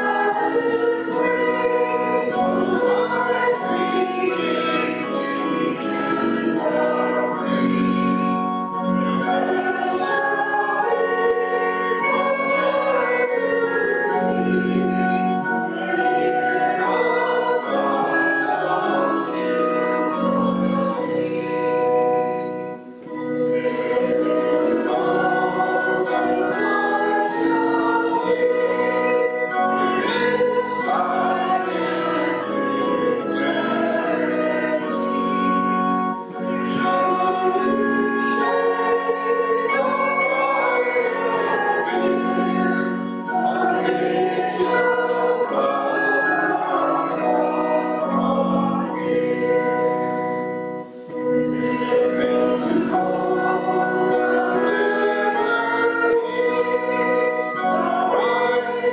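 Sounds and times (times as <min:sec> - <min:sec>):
congregation singing a hymn: 0:00.0 - 0:58.9
organ accompaniment: 0:00.0 - 0:58.9.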